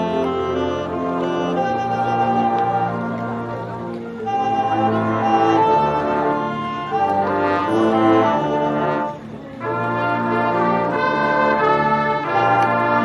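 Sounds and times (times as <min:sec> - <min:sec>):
marching band brass chords: 0:00.0 - 0:13.0.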